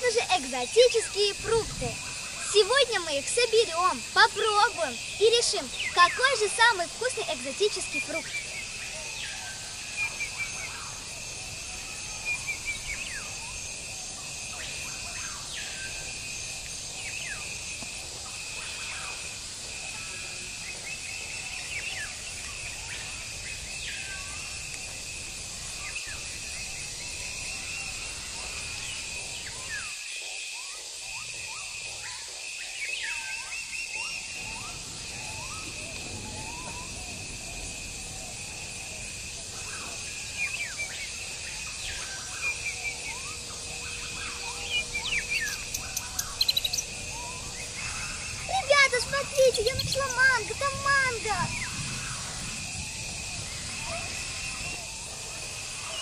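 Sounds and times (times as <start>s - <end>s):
birds chirping: 0.0s - 56.0s
pulsing insect drone: 0.0s - 56.0s.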